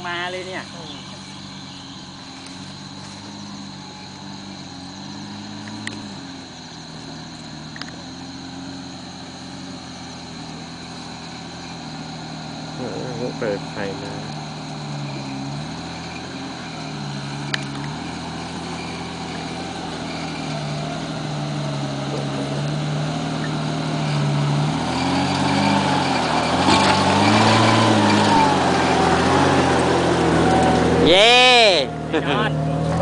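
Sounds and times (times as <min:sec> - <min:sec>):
engine revving up and down: 0:00.0 - 0:33.0.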